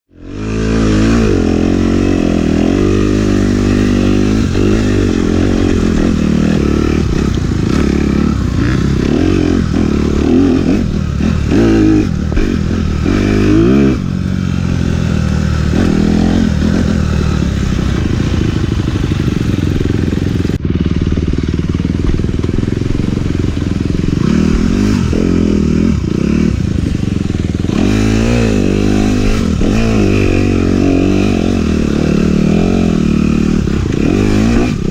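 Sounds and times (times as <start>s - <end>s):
dirt bike engine revving: 0.1s - 34.9s
bike rattling over rough ground: 1.0s - 34.9s.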